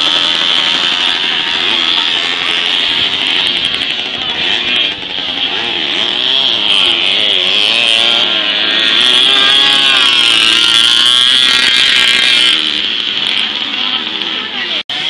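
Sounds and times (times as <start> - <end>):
moped engines revving: 0.0 - 15.0.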